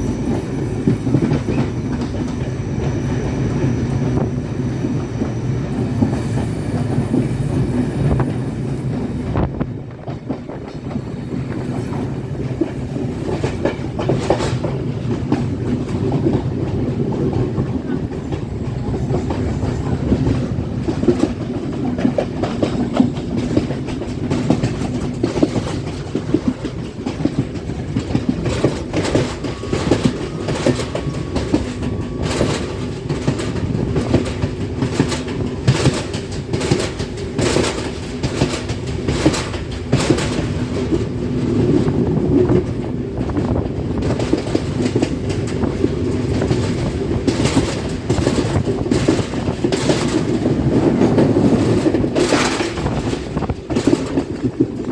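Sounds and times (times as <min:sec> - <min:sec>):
train carriage rumble: 0:00.0 - 0:54.9
wheels clacking over rail joints: 0:00.0 - 0:54.9.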